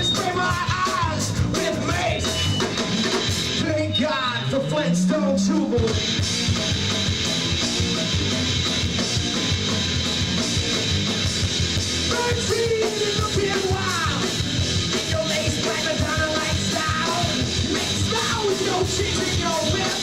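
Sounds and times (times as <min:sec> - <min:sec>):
punk rock band playing live: 0:00.0 - 0:20.0.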